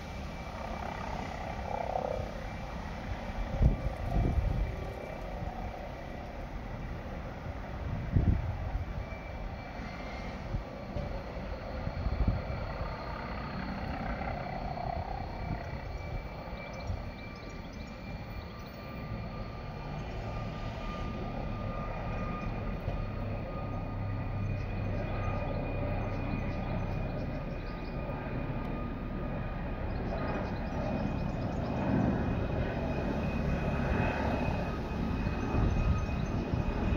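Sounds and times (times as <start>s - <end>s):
helicopter engine drone: 0.0s - 36.9s.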